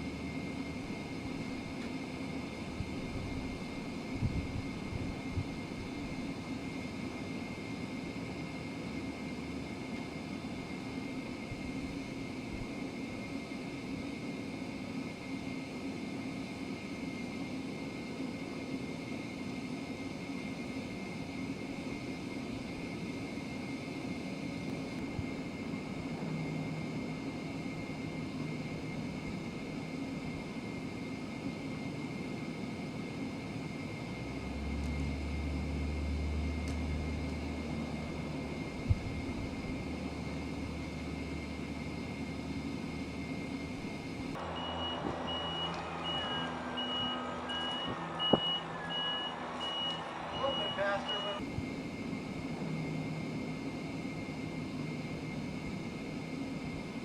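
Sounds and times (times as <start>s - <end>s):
jet aircraft engine whine: 0.0s - 57.0s.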